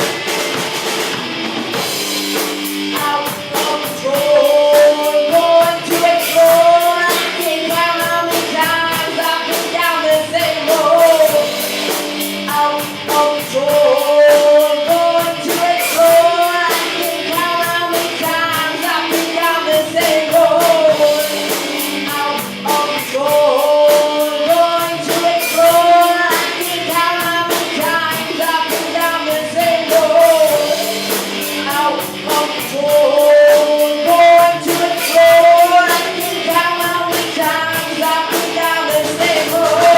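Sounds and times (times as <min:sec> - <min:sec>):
live rock band playing: 0:00.0 - 0:39.9
lead vocal singing: 0:02.8 - 0:39.9.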